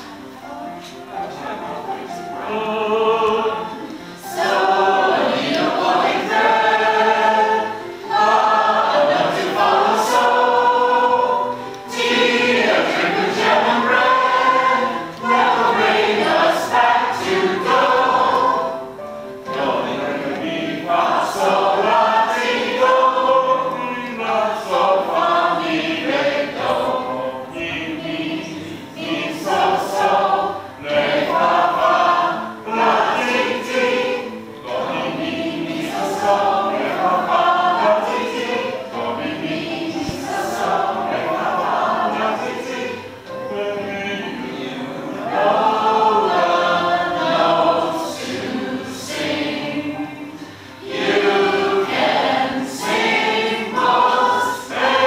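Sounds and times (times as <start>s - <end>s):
group of people singing: 0.0s - 55.0s.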